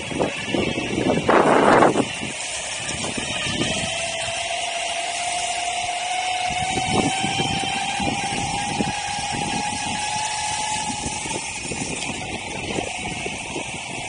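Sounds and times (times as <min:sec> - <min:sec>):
electric motors whining: 0:00.0 - 0:14.0
wheels hissing on wet road: 0:00.0 - 0:14.0.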